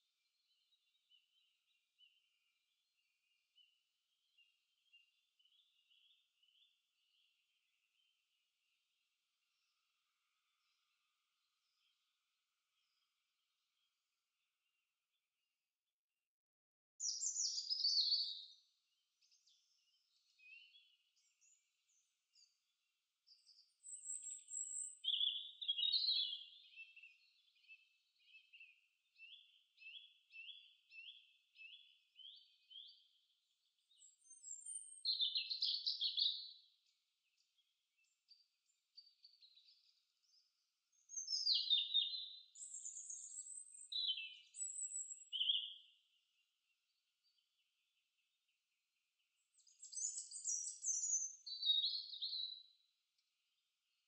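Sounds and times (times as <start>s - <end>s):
birds singing: 0.0s - 9.0s, 17.0s - 22.7s, 23.3s - 48.6s, 49.4s - 53.0s.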